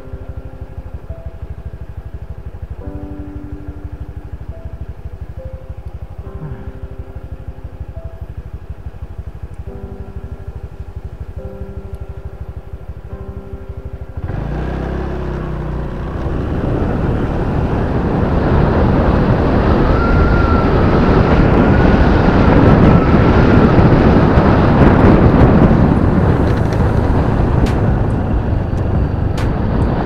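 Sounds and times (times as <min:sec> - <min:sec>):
motorcycle engine revving: 0:00.0 - 0:30.0
wind rushing over microphone: 0:00.0 - 0:30.0.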